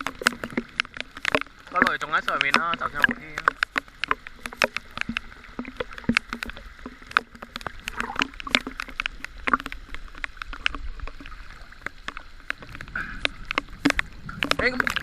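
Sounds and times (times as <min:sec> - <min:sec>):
choppy sea water splashing: 0:00.0 - 0:15.0
sharp clicks and knocks: 0:00.0 - 0:15.0.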